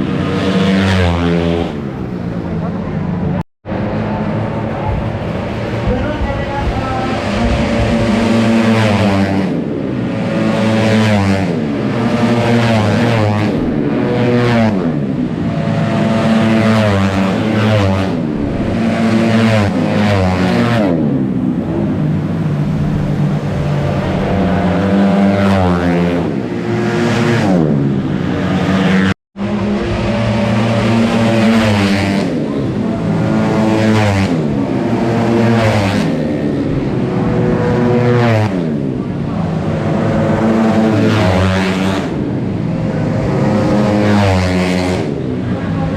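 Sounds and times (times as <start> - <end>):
racing scooter engines revving: 0.0 - 45.9.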